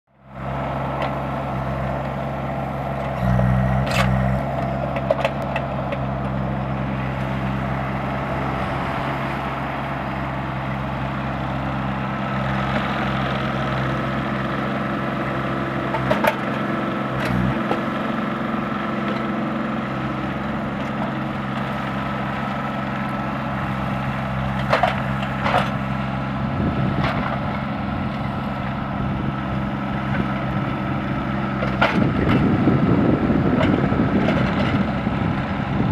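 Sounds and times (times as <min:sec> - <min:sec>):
engine running steadily: 0:00.1 - 0:35.9.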